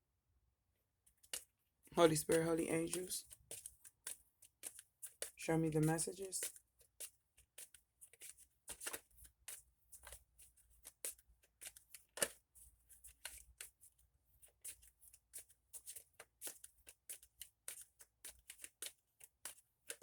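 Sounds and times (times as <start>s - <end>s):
cards being shuffled: 1.2s - 20.0s.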